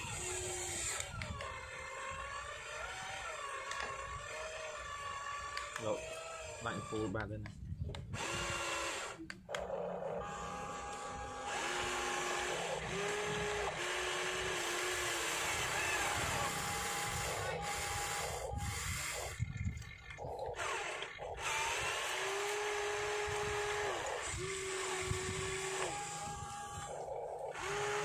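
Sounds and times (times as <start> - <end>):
toy excavator motors whining: 0.0 - 28.0.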